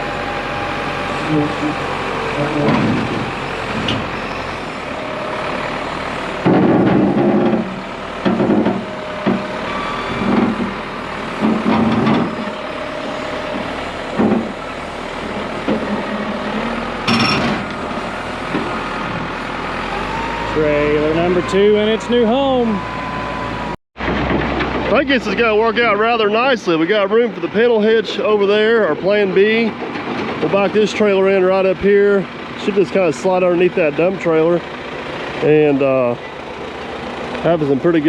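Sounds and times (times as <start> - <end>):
heavy truck engine: 0.0 - 38.0.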